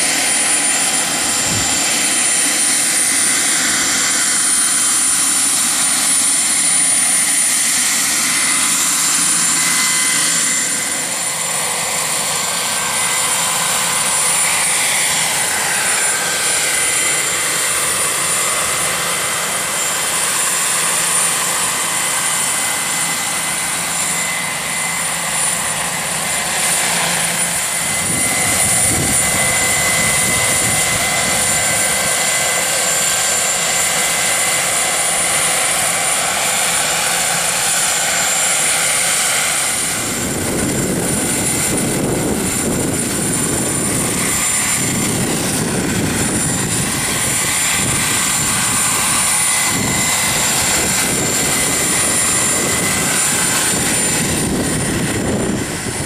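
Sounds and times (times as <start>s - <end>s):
helicopter rotor noise: 0.0s - 56.0s
model helicopter turbine whine: 0.0s - 56.0s.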